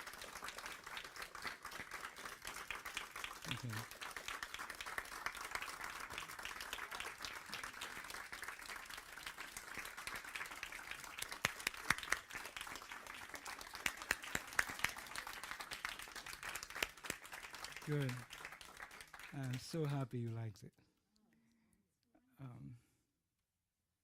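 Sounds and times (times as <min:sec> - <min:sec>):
audience applauding: 0:00.0 - 0:20.5.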